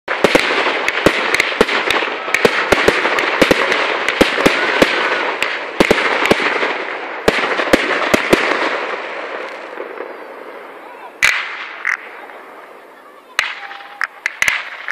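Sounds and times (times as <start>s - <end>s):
fireworks bangs: 0.1s - 14.9s
fireworks hiss: 0.1s - 14.9s.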